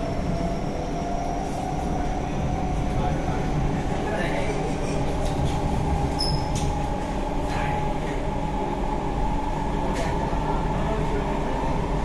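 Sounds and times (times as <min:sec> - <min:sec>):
steady train whine: 0:00.0 - 0:12.0.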